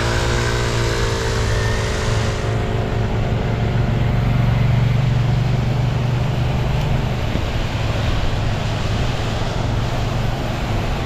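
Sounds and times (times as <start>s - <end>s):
motor vehicle hum: 0.0s - 11.0s.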